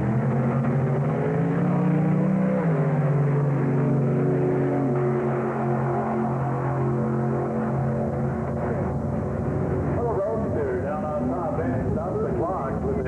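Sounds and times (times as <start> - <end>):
drag race cars accelerating: 0.0 - 13.0.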